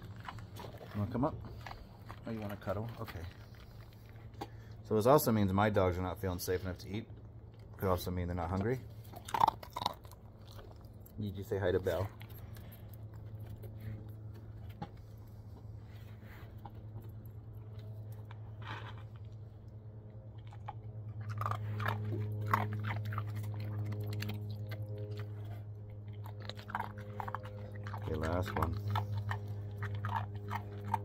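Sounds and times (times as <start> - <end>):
dog crunching dry kibble: 0.0 - 31.0
steady low hum: 0.0 - 31.0.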